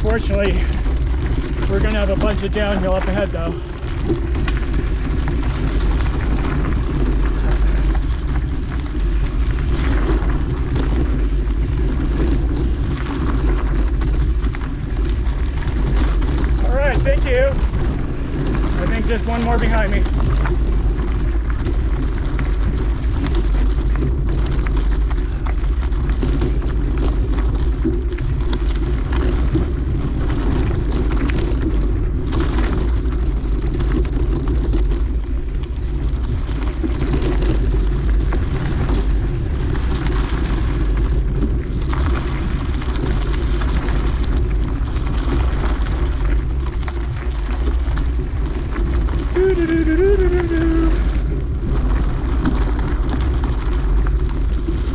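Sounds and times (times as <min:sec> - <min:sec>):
bike tyres rolling on dirt: 0:00.0 - 0:54.9
wind buffeting microphone: 0:00.0 - 0:54.9.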